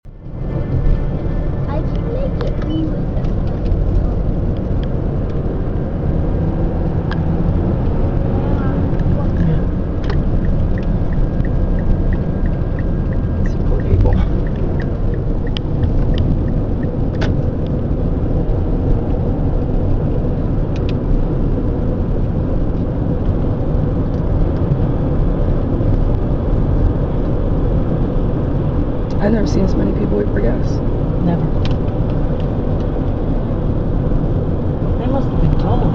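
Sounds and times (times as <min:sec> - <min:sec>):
car road and engine rumble: 0:00.0 - 0:35.9.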